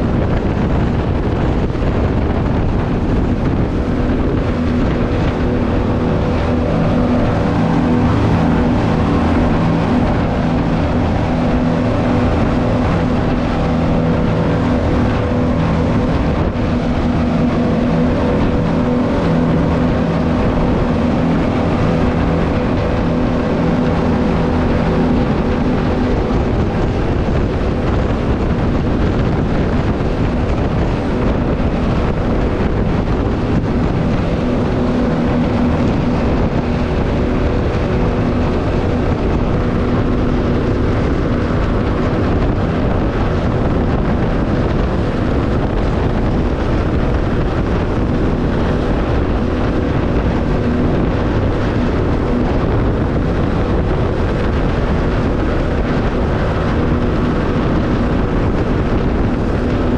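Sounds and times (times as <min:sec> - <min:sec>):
rush of spray off hull: 0:00.0 - 0:59.9
speedboat engine drone: 0:00.0 - 0:59.9
wind on microphone: 0:00.0 - 0:59.9.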